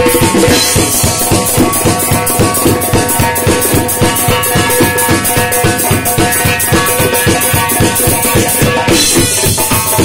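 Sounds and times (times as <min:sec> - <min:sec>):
bass drum beats: 0:00.0 - 0:10.0
frame drum playing fast rhythm: 0:00.0 - 0:10.0
steady held tone: 0:00.0 - 0:10.0.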